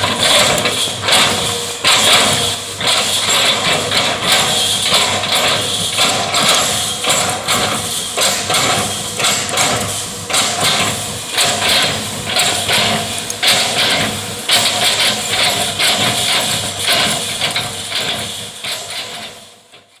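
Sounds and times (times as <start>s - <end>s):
excavator diesel engine running: 0.0s - 19.2s
machine knocks and clanks: 0.0s - 20.0s.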